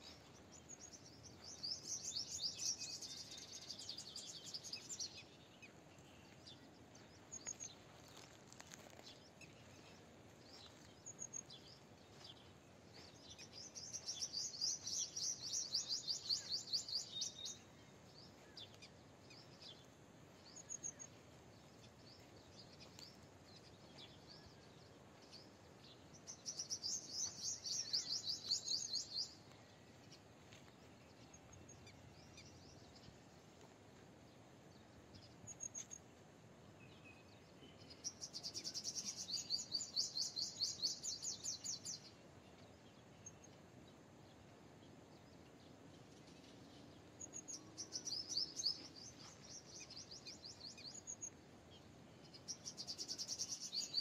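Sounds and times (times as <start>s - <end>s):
bird chirps: 0.0s - 30.3s, 36.8s - 43.6s, 46.2s - 54.0s.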